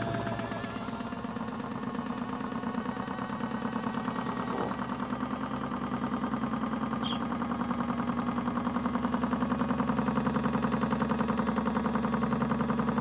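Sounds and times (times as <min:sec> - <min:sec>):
toy washing machine motor humming: 0:00.0 - 0:13.0.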